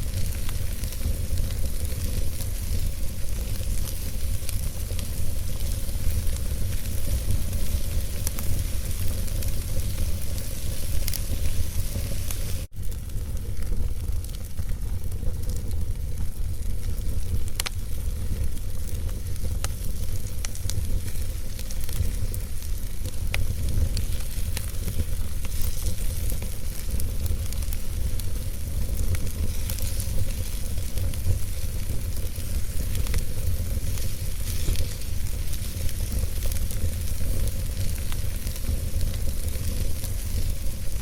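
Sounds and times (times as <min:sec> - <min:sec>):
fire crackles and pops: 0:00.0 - 0:41.0
fire hissing: 0:00.0 - 0:41.0.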